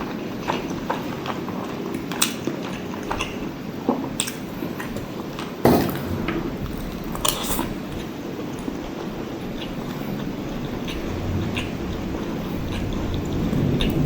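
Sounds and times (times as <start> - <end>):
wet chewing: 0.0 - 14.0.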